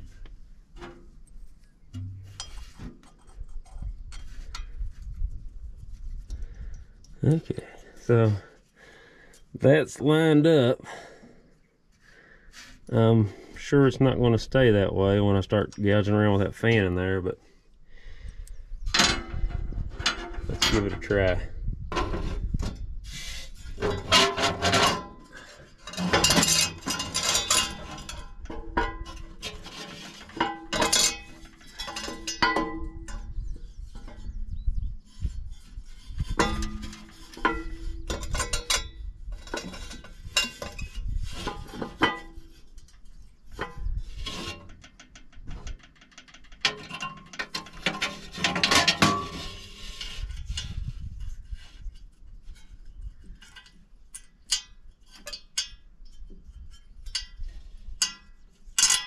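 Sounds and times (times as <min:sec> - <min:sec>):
metal clanks and scrapes: 0:00.0 - 0:05.3, 0:05.9 - 0:09.5, 0:18.8 - 0:59.0.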